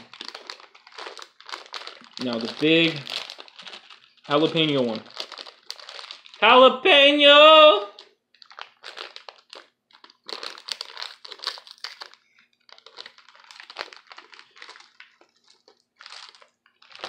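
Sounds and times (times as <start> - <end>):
plastic candy packet crinkling: 0.0 - 17.0.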